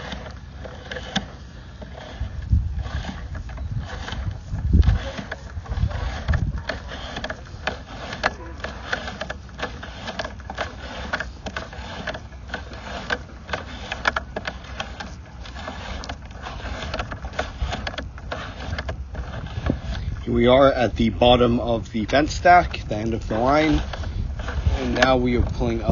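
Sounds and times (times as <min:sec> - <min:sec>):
camera cable scraping inside pipe: 0:00.0 - 0:25.9.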